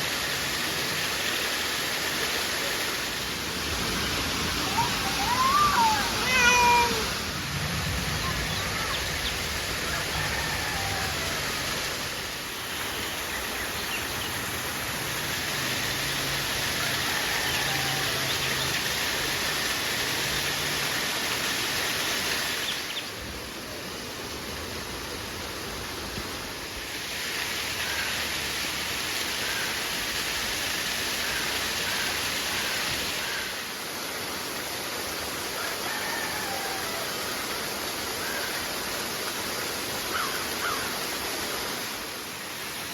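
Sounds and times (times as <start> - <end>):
river rushing: 0.0 - 42.9.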